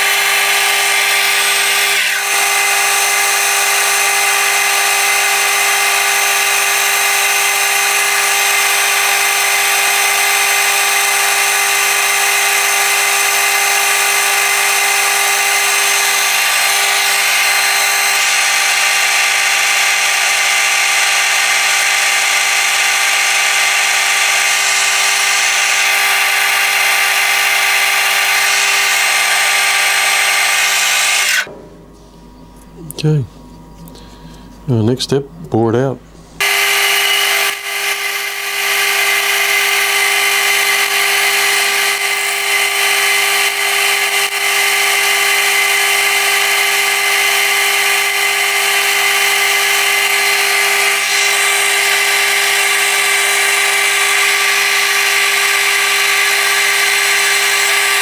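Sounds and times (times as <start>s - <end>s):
metal lathe running: 0.0s - 31.6s, 36.4s - 58.0s
motor whine: 0.0s - 34.9s, 36.3s - 58.0s.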